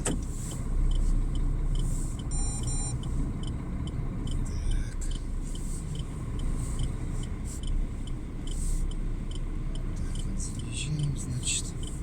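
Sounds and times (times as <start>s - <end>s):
diesel engine rumbling: 0.0s - 12.0s
light regular ticking: 0.0s - 12.0s.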